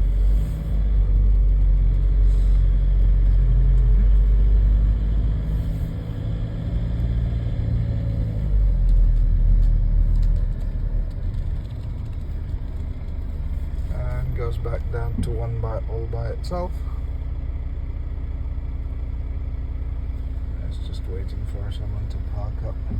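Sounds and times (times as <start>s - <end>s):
diesel engine: 0.0s - 22.9s
road rumble: 0.0s - 22.9s.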